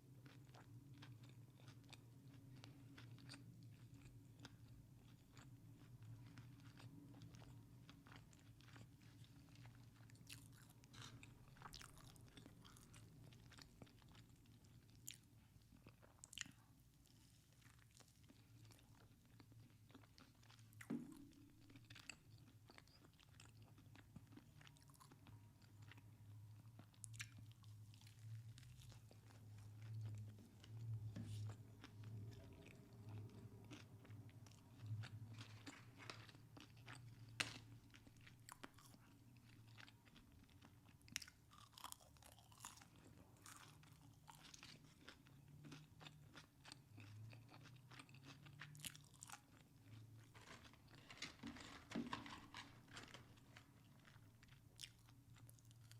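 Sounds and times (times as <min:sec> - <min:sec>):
chewing and crunching food: 0:00.0 - 0:55.9
faint low hum: 0:00.0 - 0:55.9.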